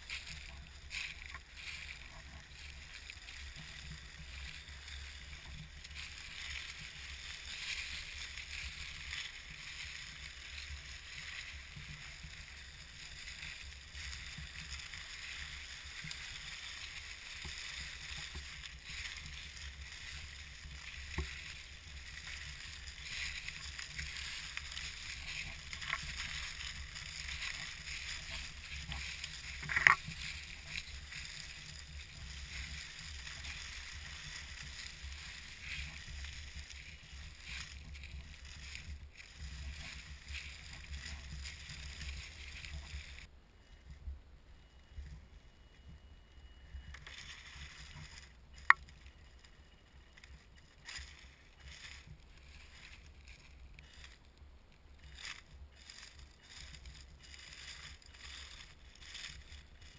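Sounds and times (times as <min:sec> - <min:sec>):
leaves rustling under tyres: 0:00.0 - 0:59.9.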